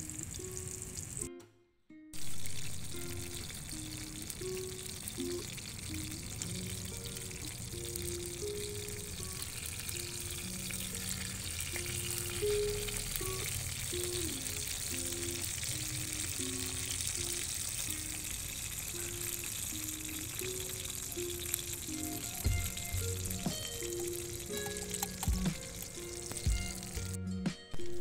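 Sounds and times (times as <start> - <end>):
hot oil sizzling: 0.0 - 1.3, 2.2 - 27.2
simple background music melody: 0.0 - 28.0.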